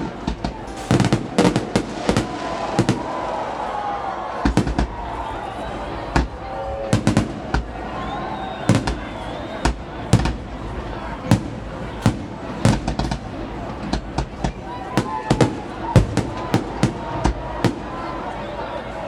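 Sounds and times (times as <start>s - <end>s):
fireworks bangs: 0.0s - 18.8s
background hubbub: 0.0s - 19.0s.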